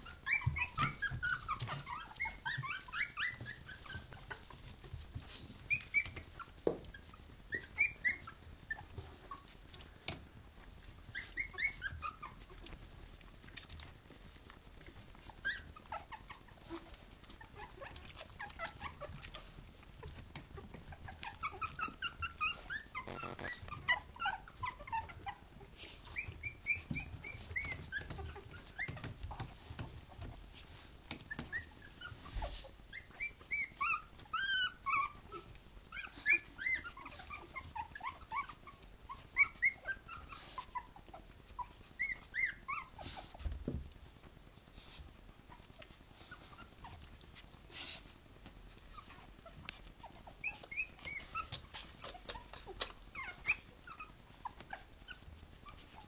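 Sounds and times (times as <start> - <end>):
puppies squeaking and whimpering: 0.0 - 56.0.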